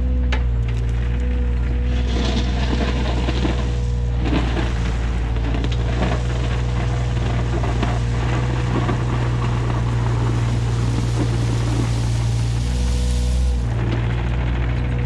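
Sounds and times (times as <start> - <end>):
excavator diesel engine running: 0.0 - 15.0
thin steady whine: 0.0 - 15.0.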